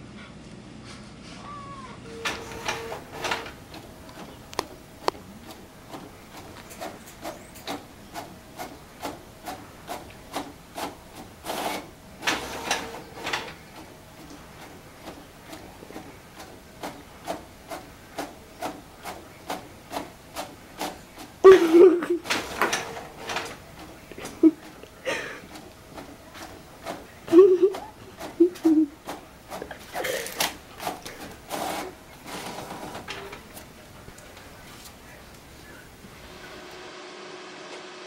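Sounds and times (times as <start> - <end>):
inkjet printer printing: 2.0 - 38.0.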